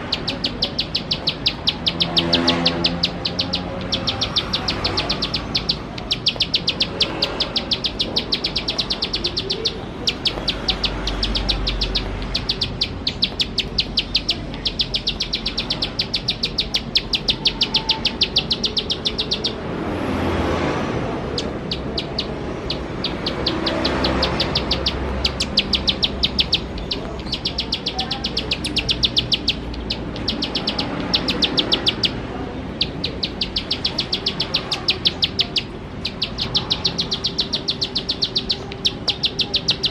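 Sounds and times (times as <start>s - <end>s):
bird's fast ticking song: 0.0s - 20.4s, 21.3s - 39.9s.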